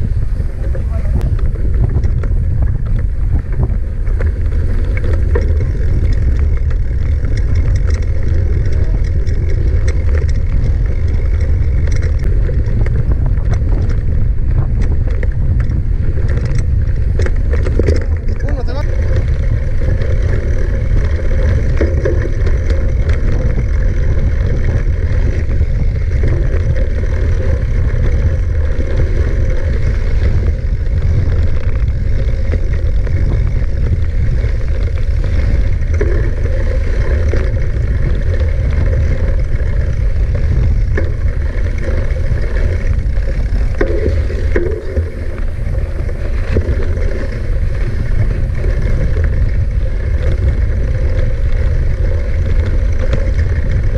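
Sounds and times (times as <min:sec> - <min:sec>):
bike tyres rolling over ground: 0:00.0 - 0:53.9
wind buffeting microphone: 0:00.0 - 0:53.9
light rattles: 0:00.6 - 0:53.9.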